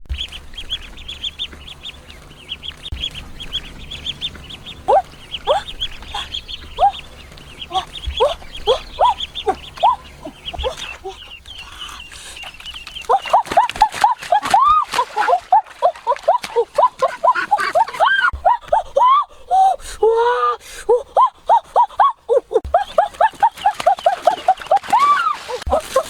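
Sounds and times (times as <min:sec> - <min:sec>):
high peeping calls: 0:00.1 - 0:19.2, 0:21.5 - 0:26.0
ducks and geese calling: 0:00.1 - 0:26.0.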